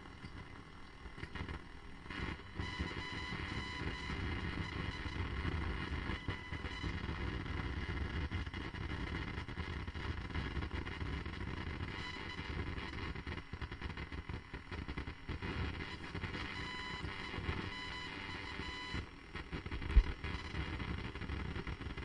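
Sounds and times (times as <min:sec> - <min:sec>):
crackling static hiss: 0:00.0 - 0:22.0.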